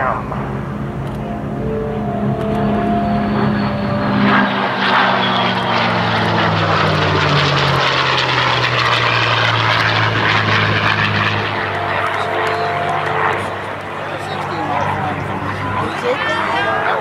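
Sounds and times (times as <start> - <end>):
aircraft flying past droning: 0.0 - 17.0.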